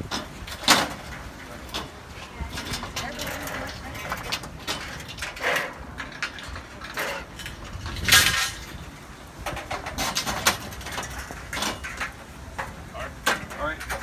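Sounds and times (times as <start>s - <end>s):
metal rails clanking: 0.0s - 14.0s.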